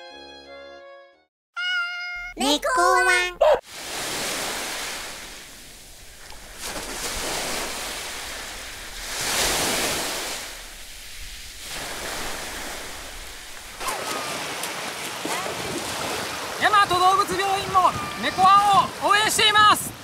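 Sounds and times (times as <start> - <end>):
sea surf washing onto beach: 3.6 - 20.0.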